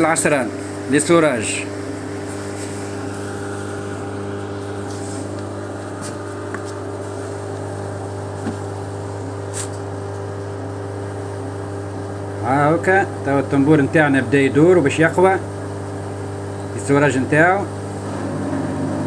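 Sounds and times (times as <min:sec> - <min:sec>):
washing machine spin hum: 0:00.0 - 0:19.0.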